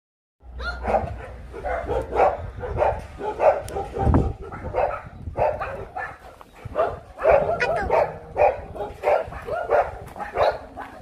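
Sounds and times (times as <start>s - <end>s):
dogs barking: 0.5s - 11.0s.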